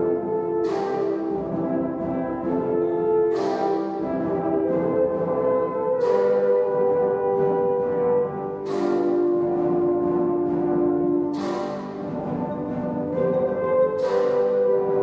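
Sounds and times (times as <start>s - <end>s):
brass ensemble playing chords: 0.0s - 15.0s.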